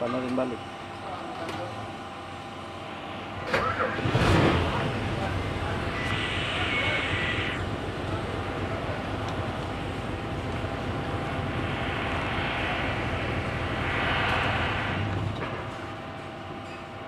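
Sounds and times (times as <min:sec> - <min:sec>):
diesel engine running: 0:02.8 - 0:16.6.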